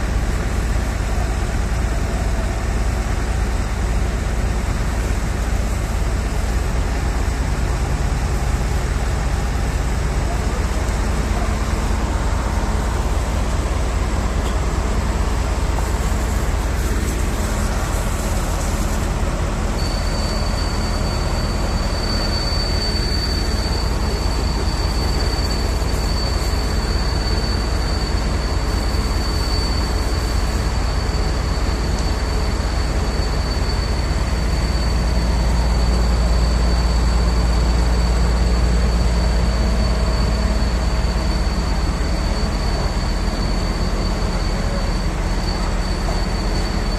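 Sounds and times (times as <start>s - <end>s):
diesel truck engine rumbling: 0.0s - 46.9s
thin high whine: 0.0s - 46.9s.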